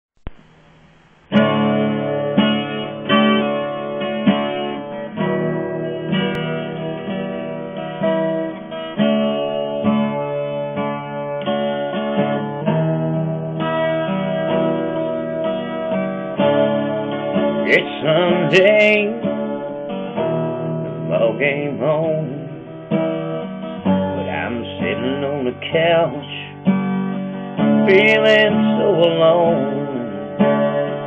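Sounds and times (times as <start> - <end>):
acoustic guitar strumming: 0.2 - 31.0.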